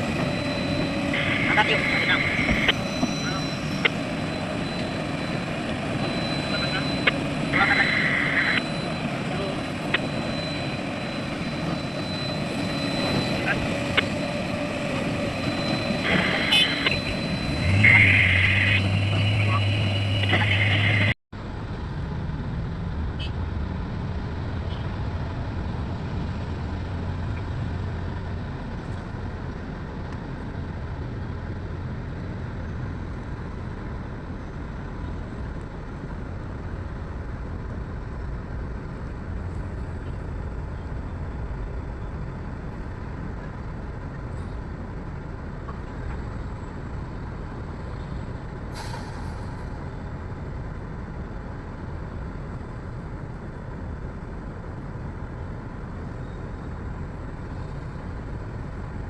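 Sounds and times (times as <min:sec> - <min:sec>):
heavy diesel machinery rumbling: 0:00.0 - 0:59.0.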